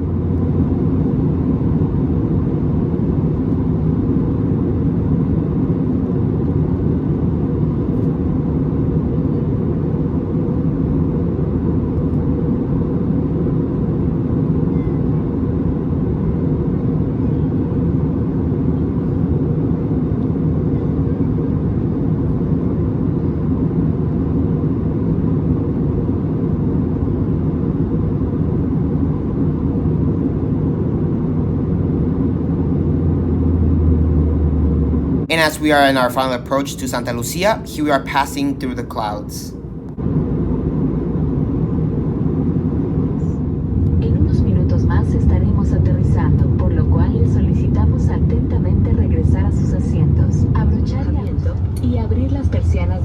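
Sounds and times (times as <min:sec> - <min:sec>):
airliner cabin rumble: 0:00.0 - 0:53.0.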